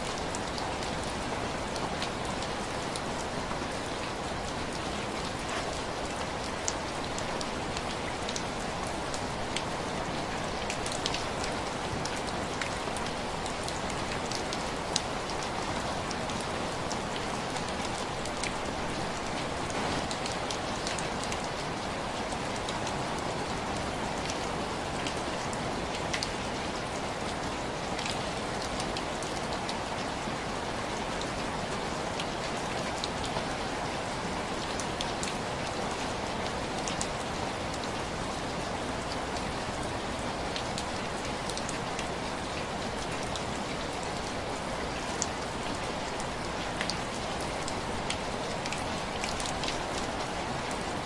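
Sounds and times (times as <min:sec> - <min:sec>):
heavy rain: 0:00.0 - 0:51.0.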